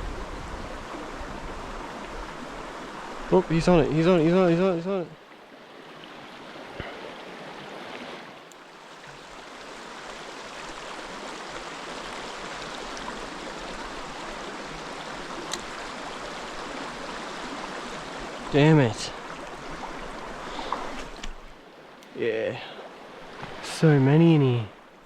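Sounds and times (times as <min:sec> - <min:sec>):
stream water running: 0:00.0 - 0:25.0.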